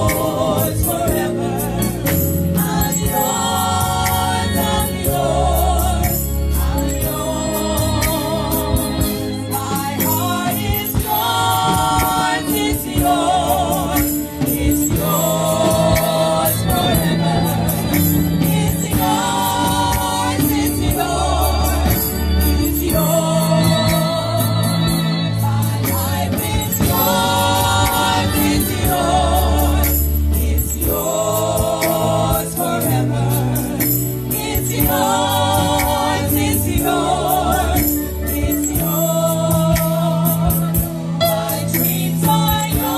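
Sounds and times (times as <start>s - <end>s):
gospel choir singing: 0.0s - 42.9s.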